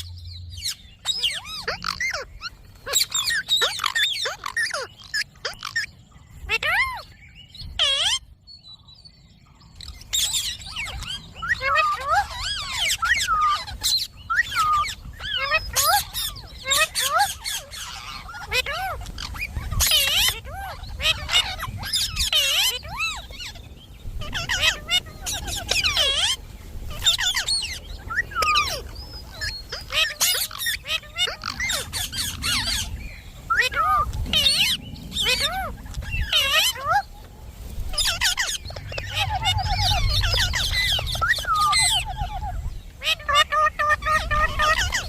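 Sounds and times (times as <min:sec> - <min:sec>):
parrots squawking and chirping: 0:00.0 - 0:08.8, 0:09.7 - 0:45.0
low background rumble: 0:00.0 - 0:45.0
parakeet chattering: 0:00.6 - 0:07.0, 0:07.8 - 0:08.2, 0:10.1 - 0:23.6, 0:24.2 - 0:37.0, 0:37.9 - 0:45.0.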